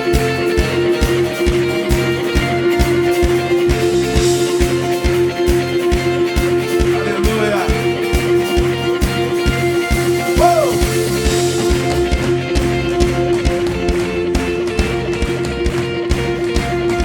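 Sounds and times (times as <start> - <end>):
bass: 0.0 - 17.0
guitar: 0.0 - 17.0
held keyboard notes: 0.0 - 17.0
kick drum beat: 0.1 - 17.0.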